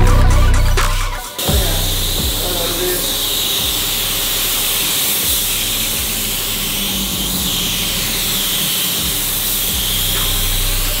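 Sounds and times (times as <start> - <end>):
spray gun hissing: 1.3 - 11.0.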